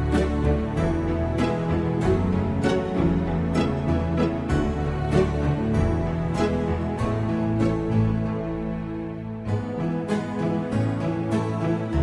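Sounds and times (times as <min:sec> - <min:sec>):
slow sustained background music: 0:00.0 - 0:12.0.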